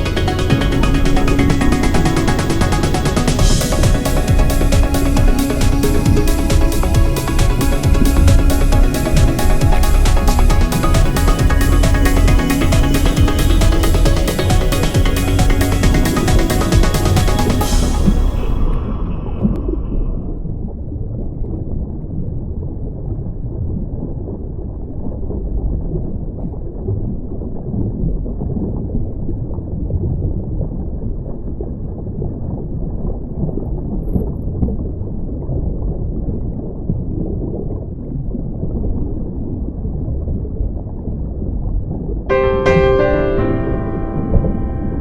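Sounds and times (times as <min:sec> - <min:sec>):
muffled rushing water: 0:00.0 - 0:45.0.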